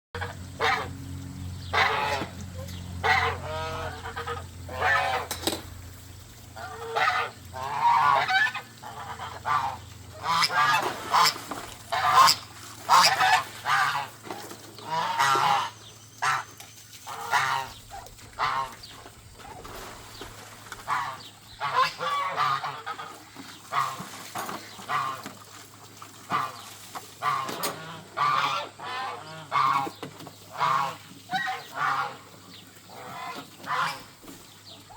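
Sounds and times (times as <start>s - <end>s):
geese honking: 0.2s - 5.6s, 6.5s - 19.6s, 20.7s - 24.1s, 24.8s - 25.3s, 27.2s - 34.9s
low steady hum: 0.2s - 30.0s.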